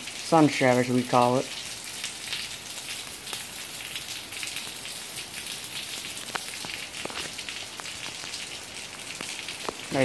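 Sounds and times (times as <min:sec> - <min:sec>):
heavy rain on pavement: 0:00.0 - 0:10.0
water drips ticking: 0:00.0 - 0:10.0.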